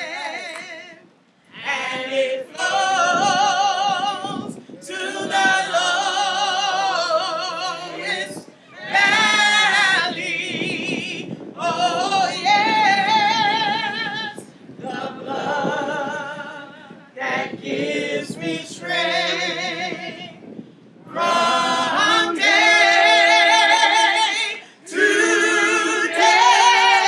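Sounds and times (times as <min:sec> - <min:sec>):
woman singing with vibrato: 0:00.0 - 0:01.0, 0:01.6 - 0:20.4, 0:21.1 - 0:27.0
people singing unaccompanied: 0:00.0 - 0:27.0.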